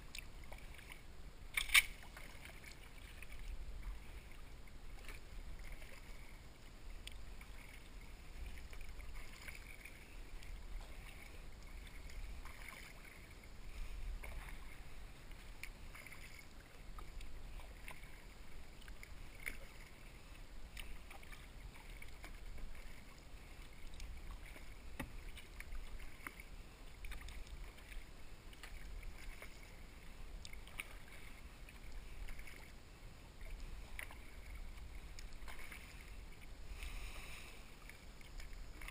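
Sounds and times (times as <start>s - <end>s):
water dripping from paddle: 0.0s - 13.4s, 14.2s - 32.7s, 33.4s - 38.9s
kayak paddle strokes in water: 0.0s - 38.9s
steady low rumble: 0.0s - 38.9s.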